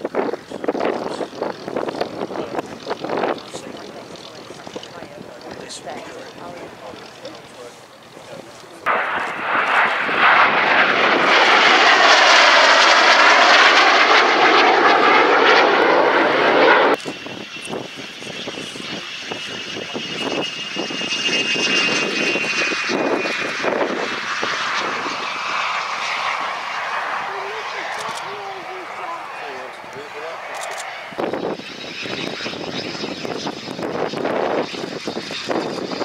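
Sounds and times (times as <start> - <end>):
high turbine whine: 0.0 - 36.0
jets passing overhead: 0.0 - 36.0.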